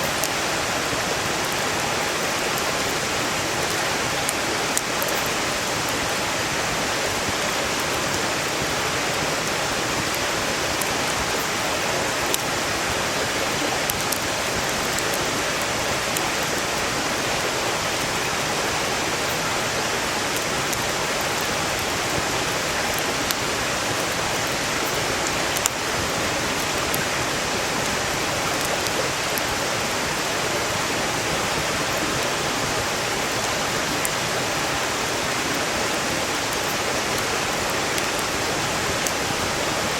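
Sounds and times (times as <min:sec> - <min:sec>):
firewood crackling: 0:00.0 - 0:39.9
stream flowing: 0:00.0 - 0:39.9.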